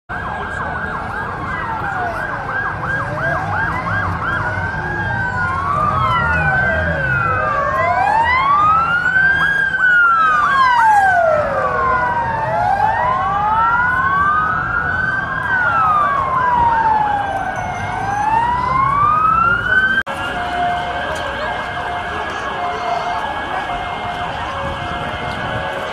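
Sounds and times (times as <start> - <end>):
fast yelping siren: 0.1 - 25.5
sirens wailing: 0.1 - 25.9.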